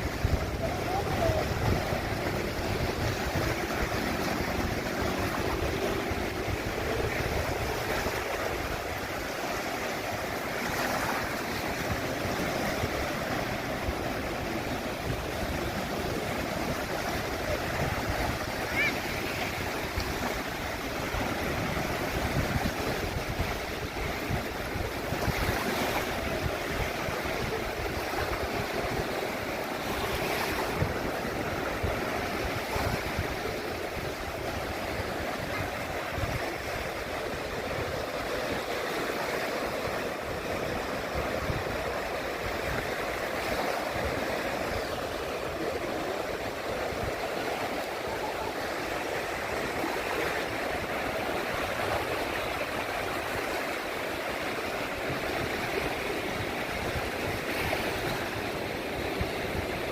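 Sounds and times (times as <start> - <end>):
low wind rumble: 0.0 - 53.5
sea water rushing: 0.0 - 59.9.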